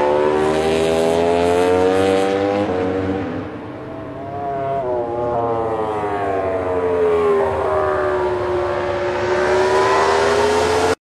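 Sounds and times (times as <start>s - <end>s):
motorcycle engine at high revs: 0.0s - 5.0s, 6.1s - 11.0s.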